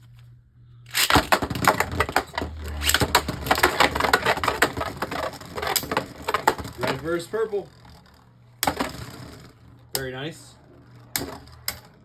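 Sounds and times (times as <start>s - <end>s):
spinning tops clashing: 0.9s - 12.0s.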